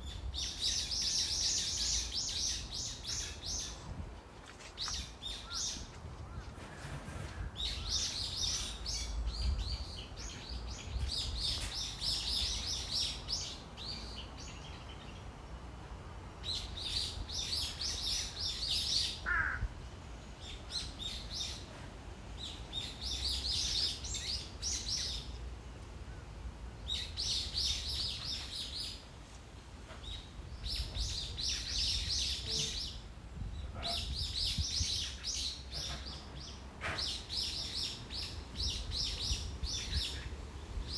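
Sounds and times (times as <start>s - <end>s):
songbirds twittering: 0.0s - 3.9s, 4.7s - 15.7s, 16.4s - 29.1s, 29.9s - 40.9s.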